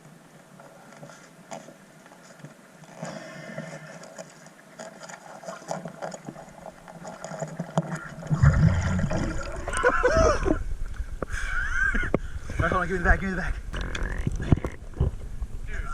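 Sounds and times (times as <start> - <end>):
water sloshing and gurgling: 0.2 - 15.9.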